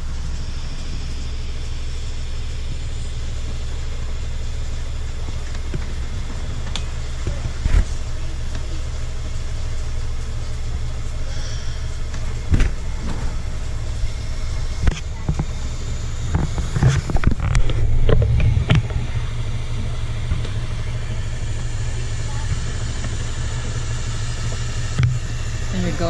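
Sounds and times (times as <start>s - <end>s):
low machinery drone: 0.0s - 26.0s.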